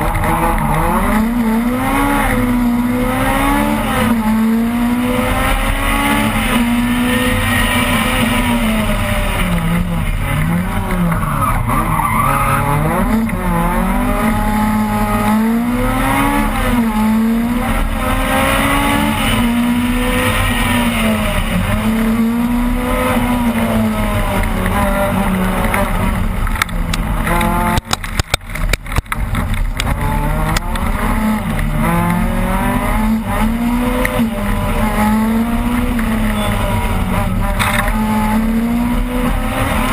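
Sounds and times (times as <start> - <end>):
rally car engine accelerating: 0.0 - 39.9.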